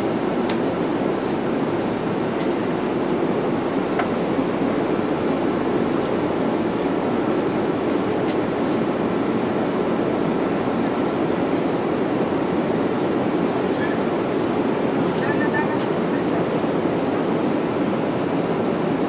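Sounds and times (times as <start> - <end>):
airplane cabin airflow and engine: 0.0 - 19.0.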